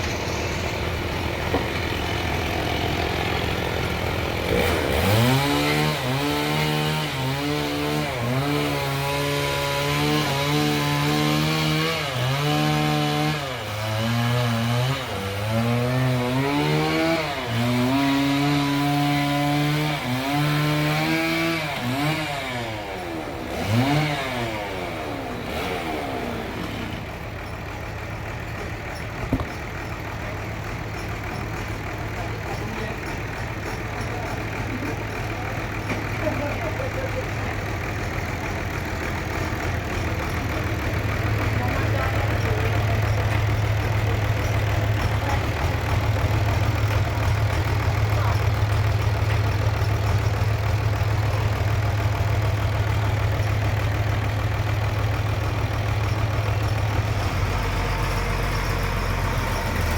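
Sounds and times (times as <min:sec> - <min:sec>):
engine-driven saw cutting wood: 0:00.0 - 0:59.9.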